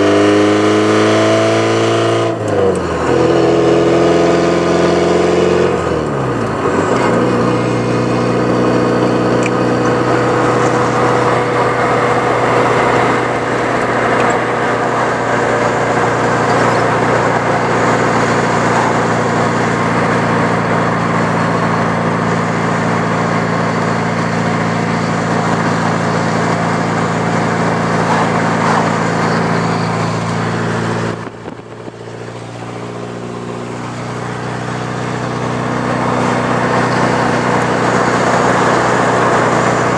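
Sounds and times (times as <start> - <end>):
car engine exhaust: 0.0 - 39.9.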